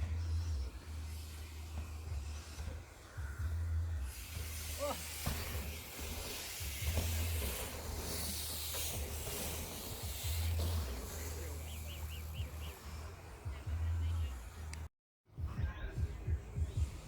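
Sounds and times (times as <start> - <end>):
bike tyres rolling on dirt: 0.0 - 14.8.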